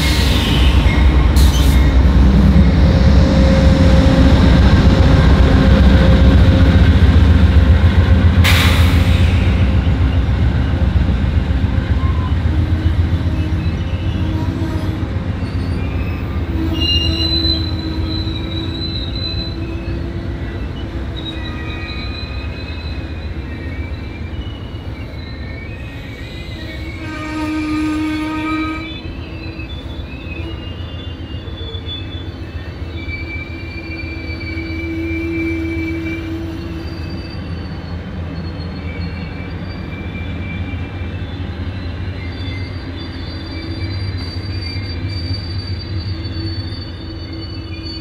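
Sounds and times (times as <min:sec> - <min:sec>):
train brakes squealing: 0:00.0 - 0:07.4, 0:08.4 - 0:48.0
diesel locomotive rumble: 0:00.0 - 0:48.0
train cars rolling past: 0:00.0 - 0:48.0.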